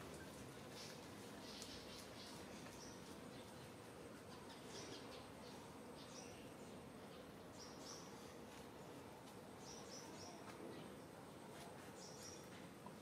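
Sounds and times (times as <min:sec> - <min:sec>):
low steady background hiss: 0:00.0 - 0:13.0.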